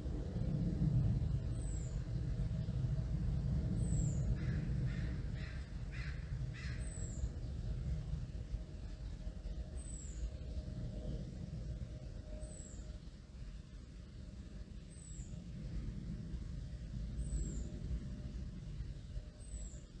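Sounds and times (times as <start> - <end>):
distant aircraft rumble: 0.0 - 20.0.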